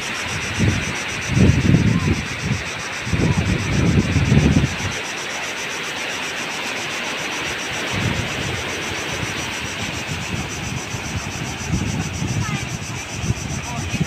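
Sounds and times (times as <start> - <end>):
surf breaking on beach: 0.0 - 14.0
wind rumbling on microphone: 0.0 - 14.0.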